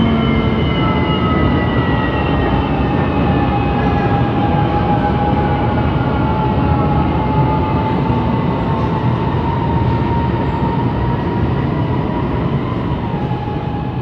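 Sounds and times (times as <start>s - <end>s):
light rail train rumble: 0.0s - 14.0s.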